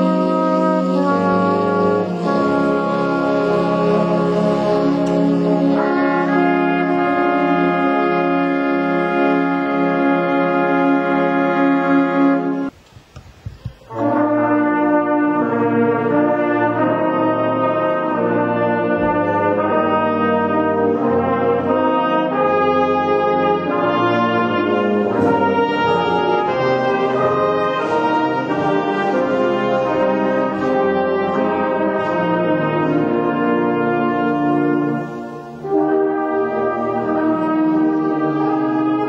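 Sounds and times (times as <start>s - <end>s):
brass band playing chords: 0.0s - 12.8s, 13.7s - 39.0s.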